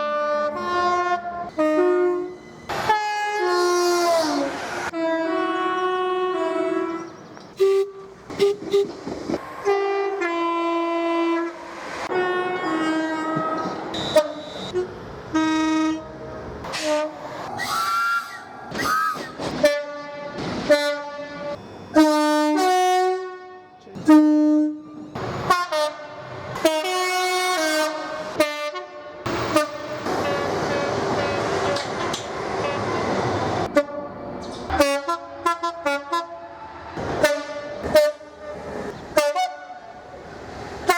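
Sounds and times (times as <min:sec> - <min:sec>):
train horn playing notes: 0:00.0 - 0:09.0, 0:09.6 - 0:17.4, 0:18.9 - 0:31.4, 0:34.7 - 0:40.0.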